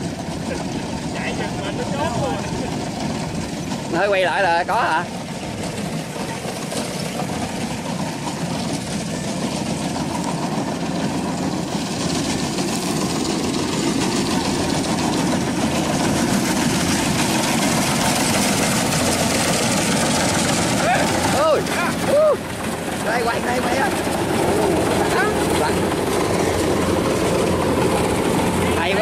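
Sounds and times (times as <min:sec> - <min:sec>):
combine harvester engine running: 0:00.0 - 0:29.0.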